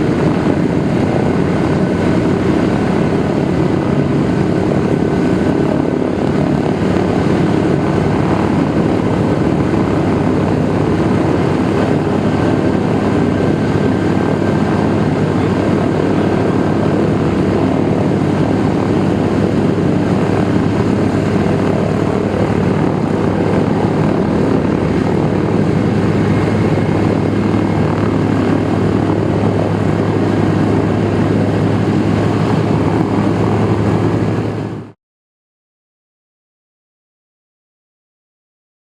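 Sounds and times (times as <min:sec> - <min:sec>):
radial aircraft engines droning: 0:00.0 - 0:35.0.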